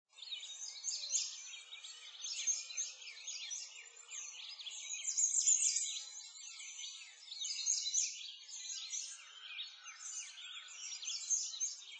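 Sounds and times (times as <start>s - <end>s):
songbirds chirping: 0.1s - 11.9s.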